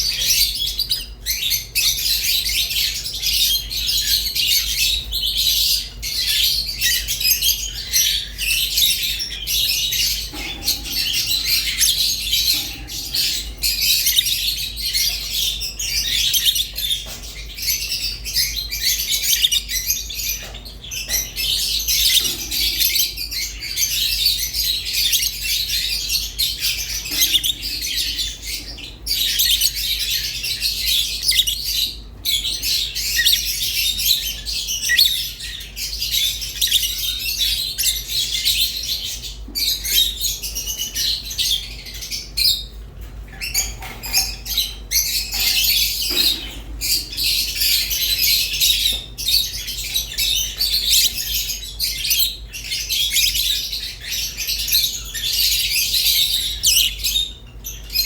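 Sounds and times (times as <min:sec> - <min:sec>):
lovebirds chirping and chattering: 0:00.0 - 0:58.0.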